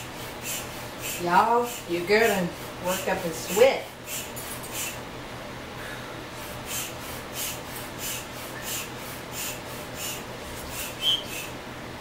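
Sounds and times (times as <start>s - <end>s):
hand air pump puffing: 0.0s - 5.0s, 6.4s - 11.6s.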